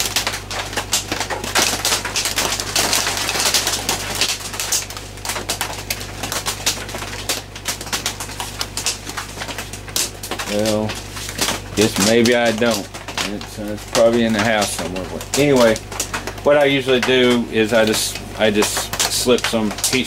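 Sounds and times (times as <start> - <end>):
heavy rain on a tin roof: 0.0 - 20.0
steady low hum: 0.0 - 20.0.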